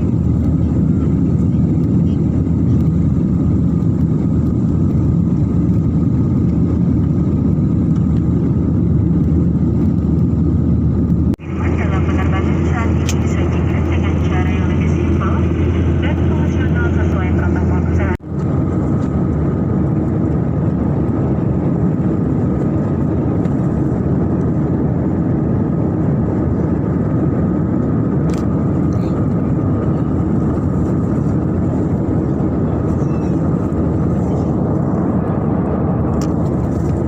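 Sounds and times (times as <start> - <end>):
jet engine airflow rush: 0.0 - 37.0.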